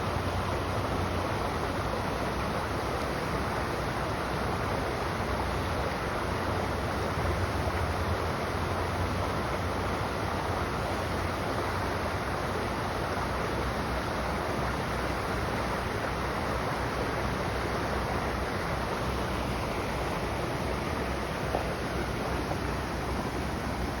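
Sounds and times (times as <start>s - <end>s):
flowing river water: 0.0s - 24.0s.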